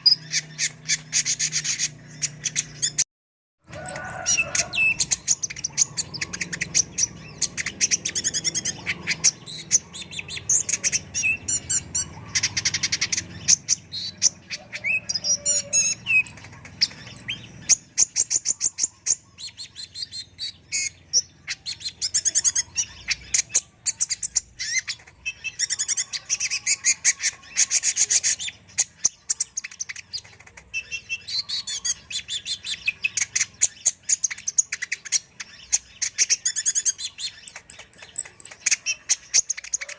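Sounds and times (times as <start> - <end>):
sunbird singing: 0.0 - 3.0, 3.6 - 39.9.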